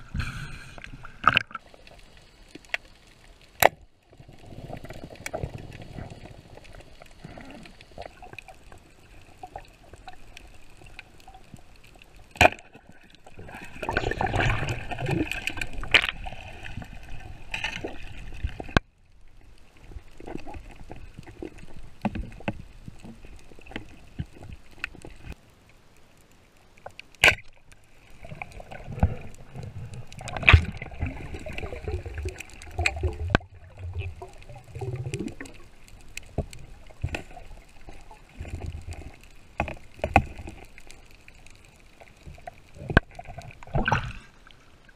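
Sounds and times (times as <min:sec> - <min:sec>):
water sloshing and gurgling: 0:00.0 - 0:25.4, 0:27.2 - 0:44.9.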